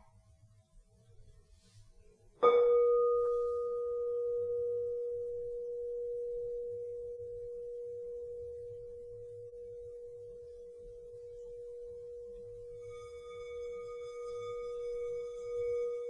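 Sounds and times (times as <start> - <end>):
singing bowl ringing: 2.4 - 16.0.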